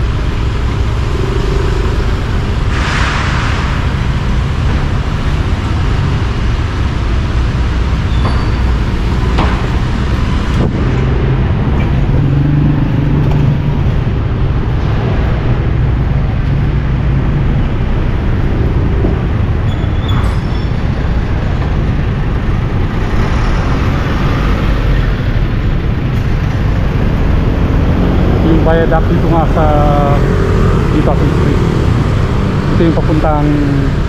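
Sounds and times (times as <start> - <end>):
motorcycle engine drone: 0.0 - 34.0.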